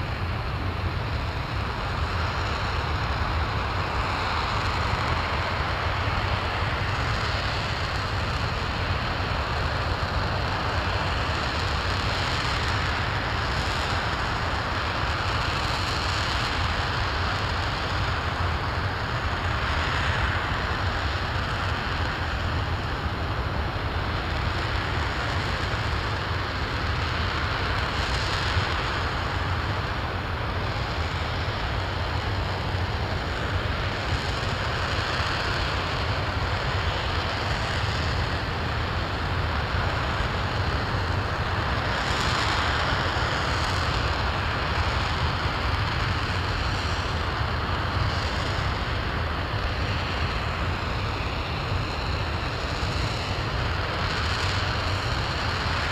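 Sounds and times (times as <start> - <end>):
rocket engine rushing roar: 0.0 - 55.9.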